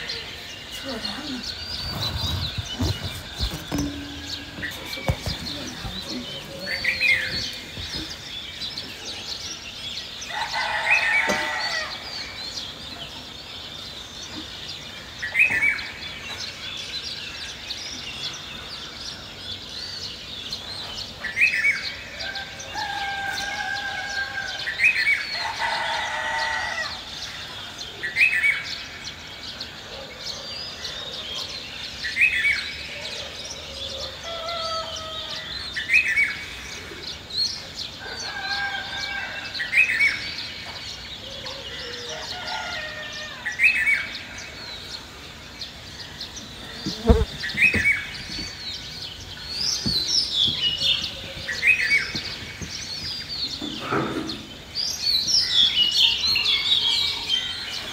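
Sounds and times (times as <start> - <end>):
small birds chirping: 0.0 - 26.3, 26.9 - 57.9.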